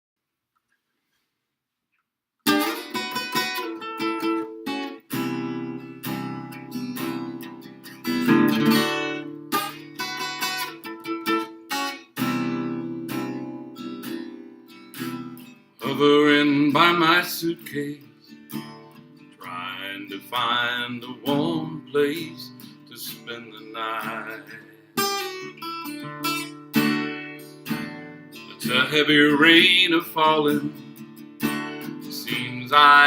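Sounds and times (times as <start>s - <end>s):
acoustic guitar strumming chords: 2.5s - 33.0s.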